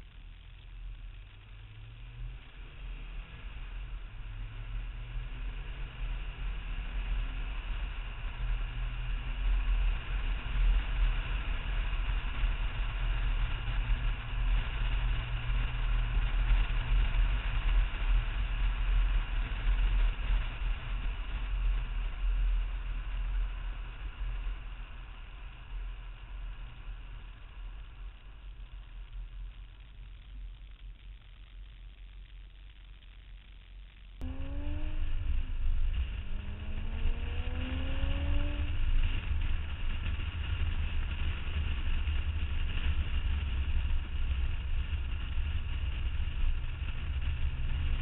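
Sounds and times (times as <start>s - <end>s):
car engine driving: 0.0s - 48.0s.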